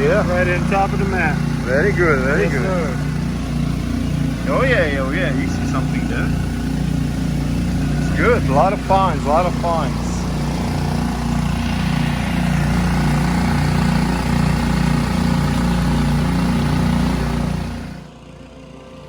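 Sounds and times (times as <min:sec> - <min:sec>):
water pump engine running: 0:00.0 - 0:19.0.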